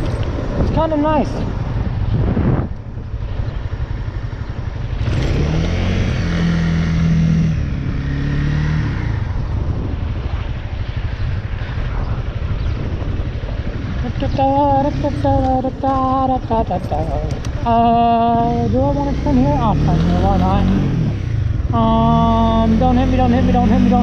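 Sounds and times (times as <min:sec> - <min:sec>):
motorcycle engine accelerating: 0:00.0 - 0:24.0
wind rumble on microphone: 0:00.0 - 0:24.0.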